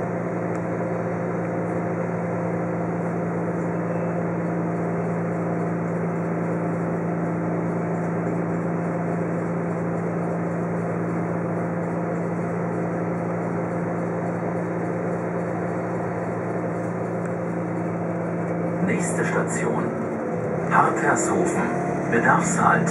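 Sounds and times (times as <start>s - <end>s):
diesel railcar engine hum: 0.0s - 22.9s
train running noise: 0.0s - 22.9s.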